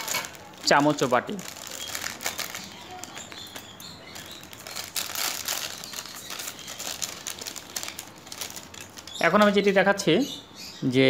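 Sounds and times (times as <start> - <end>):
plastic wrapper crinkling: 0.0 - 9.7.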